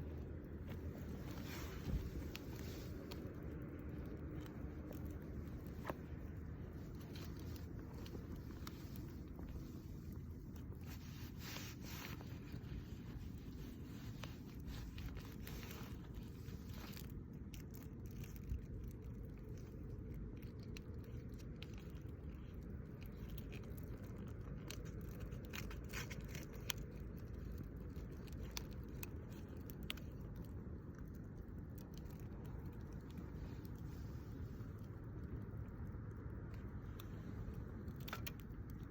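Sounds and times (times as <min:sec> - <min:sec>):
low background noise: 0:00.0 - 0:38.9.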